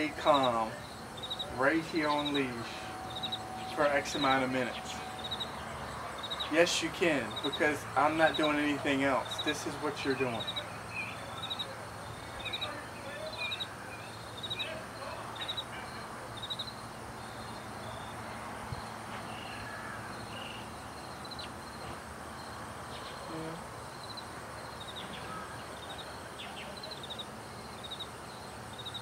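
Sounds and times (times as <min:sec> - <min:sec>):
steady background hiss: 0:00.0 - 0:29.0.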